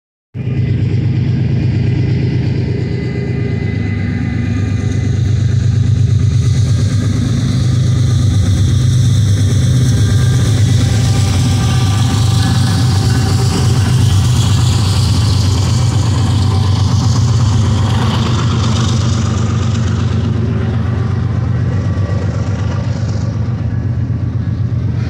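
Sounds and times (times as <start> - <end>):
locomotive engine drone: 0.4 - 25.0.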